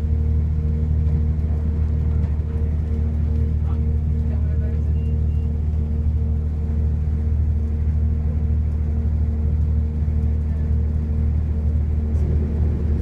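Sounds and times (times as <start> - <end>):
constant hum: 0.0 - 13.0
vehicle rumble: 0.0 - 13.0.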